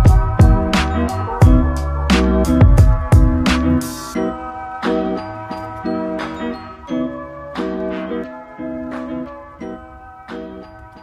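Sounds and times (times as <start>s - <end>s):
light instrumental music: 0.0s - 11.0s.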